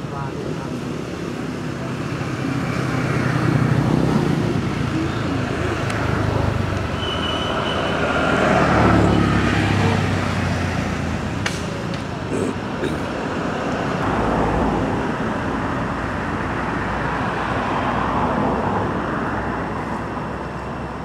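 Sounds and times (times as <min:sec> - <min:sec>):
traffic engine rumble: 0:00.0 - 0:21.0.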